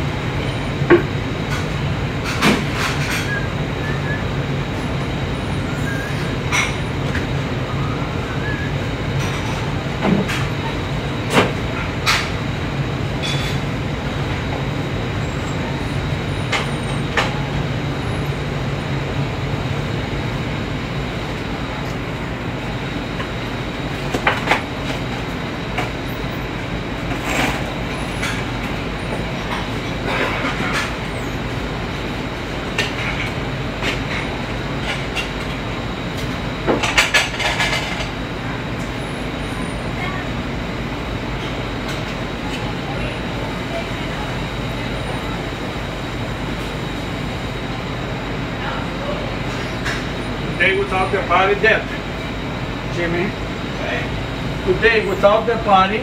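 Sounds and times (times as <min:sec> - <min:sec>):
ventilation and equipment drone: 0:00.0 - 0:56.0.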